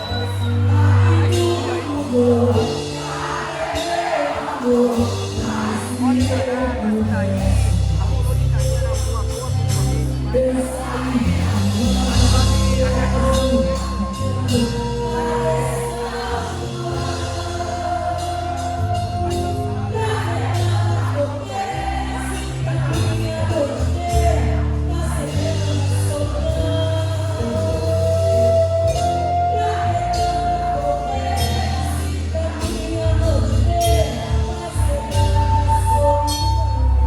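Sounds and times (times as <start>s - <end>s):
steady bass line: 0.0s - 37.0s.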